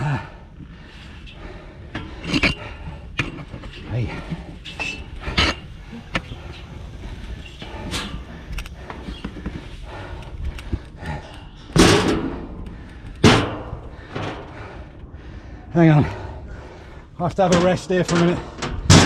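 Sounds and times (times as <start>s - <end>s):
climbing metal ladders and stairs: 0.0s - 19.0s
loud breathy rush: 0.1s - 17.2s.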